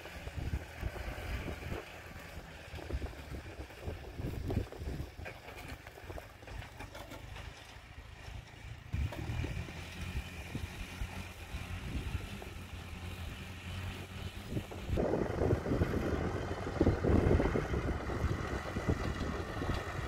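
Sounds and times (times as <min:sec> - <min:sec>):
low wind-like rumble: 0:00.0 - 0:06.8, 0:07.9 - 0:20.0
tractor engine running: 0:00.0 - 0:20.0.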